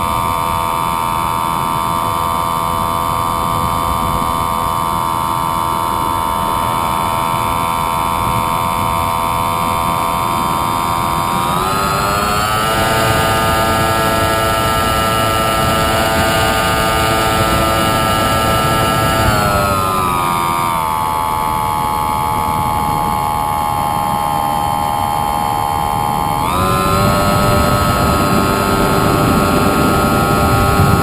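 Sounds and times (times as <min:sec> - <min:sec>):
model airplane motor whining: 0:00.0 - 0:31.0.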